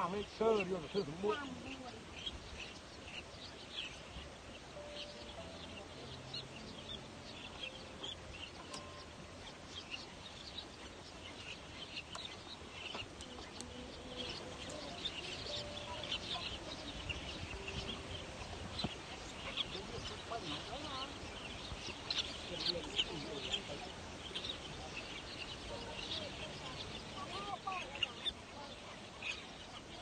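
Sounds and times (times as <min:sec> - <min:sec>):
chorus of high bird chirps: 0:00.0 - 0:30.0.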